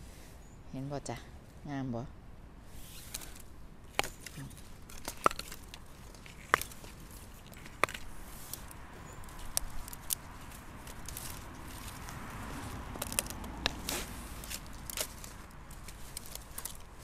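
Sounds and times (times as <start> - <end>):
plant stalks snapping: 3.0 - 17.0.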